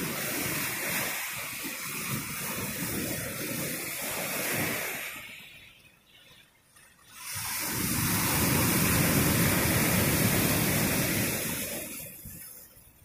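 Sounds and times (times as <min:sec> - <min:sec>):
wave breaking over rocks: 0:00.0 - 0:05.7, 0:07.0 - 0:12.6.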